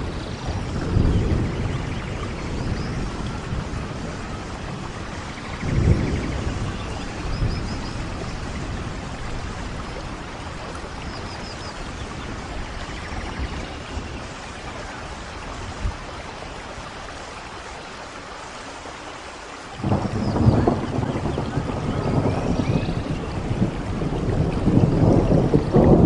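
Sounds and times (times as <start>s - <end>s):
distant thunder rumble: 0.0s - 17.5s, 19.8s - 26.0s
steady rain: 0.0s - 26.0s.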